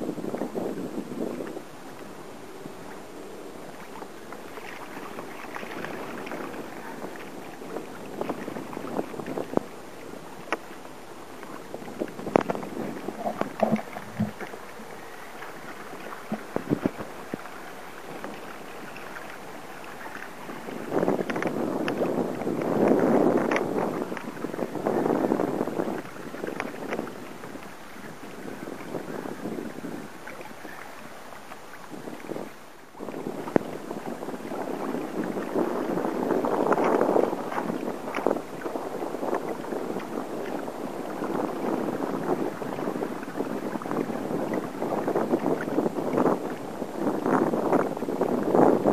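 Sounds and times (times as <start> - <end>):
water rushing along kayak hull: 0.0 - 48.9
wind on microphone: 0.0 - 48.9.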